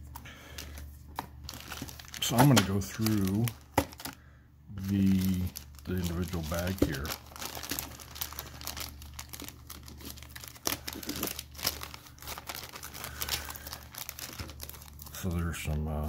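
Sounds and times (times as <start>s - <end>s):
plastic bag crinkling: 0.4s - 4.2s, 4.8s - 16.0s.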